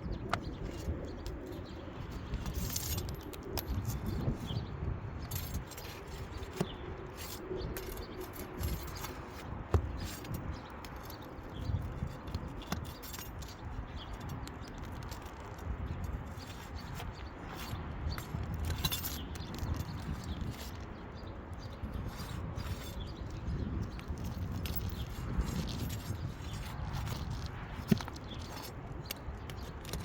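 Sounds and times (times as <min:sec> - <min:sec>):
tools scraping roof shingles: 0:05.2 - 0:30.0.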